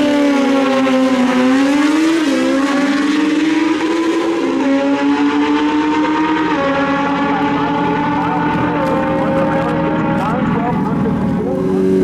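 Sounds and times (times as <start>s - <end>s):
motorcycle engine at full throttle: 0.0s - 12.0s.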